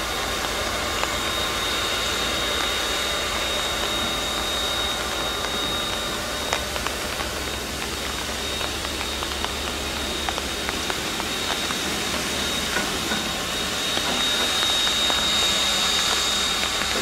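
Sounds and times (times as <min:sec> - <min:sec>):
steam hissing from locomotive: 0:00.0 - 0:17.0
thin high whine: 0:00.0 - 0:17.0.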